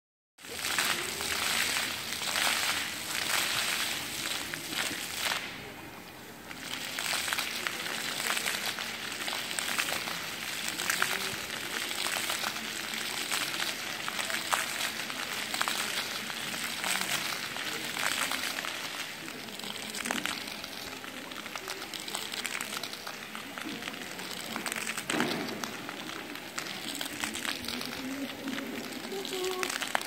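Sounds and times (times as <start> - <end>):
water jets splashing on paving: 0.4 - 30.0.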